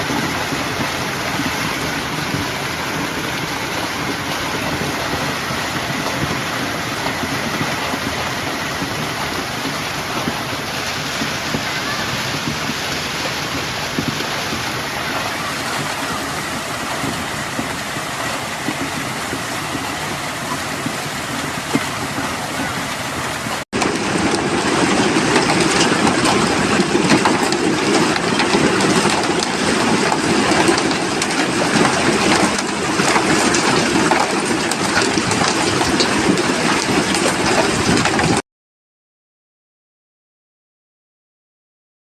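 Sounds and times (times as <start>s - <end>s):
heavy rain pouring: 0.0s - 38.4s
sharp rain taps: 0.0s - 38.4s.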